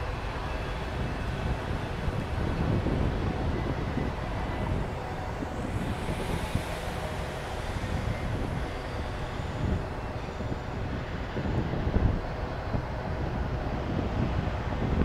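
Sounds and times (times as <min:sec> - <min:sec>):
freight train rumbling past: 0:00.0 - 0:15.0
wind buffeting microphone: 0:00.0 - 0:15.0.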